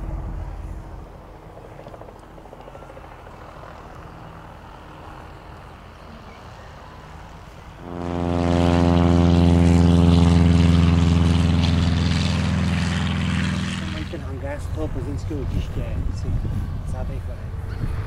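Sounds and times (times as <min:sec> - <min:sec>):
propeller aircraft engine running: 0:00.0 - 0:18.0.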